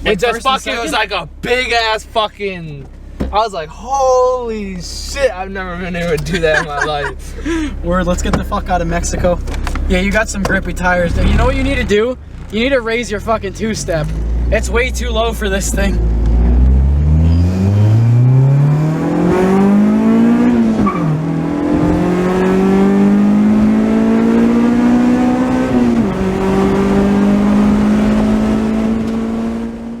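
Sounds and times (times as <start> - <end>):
car engine accelerating hard: 3.8 - 30.0.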